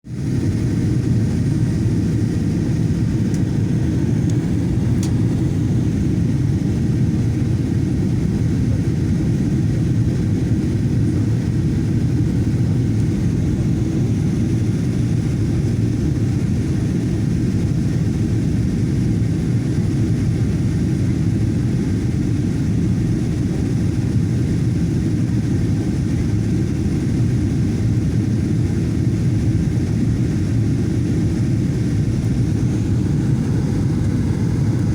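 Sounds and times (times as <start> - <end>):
airplane cabin engine and airflow noise: 0.1 - 34.9.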